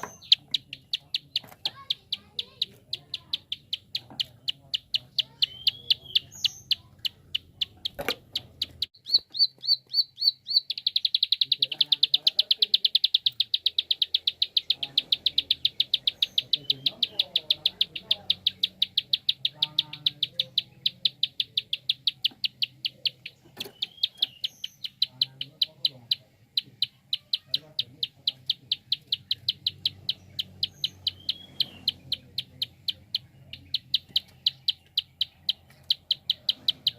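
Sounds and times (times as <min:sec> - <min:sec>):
bird giving rapid ticking call: 0:00.0 - 0:36.9.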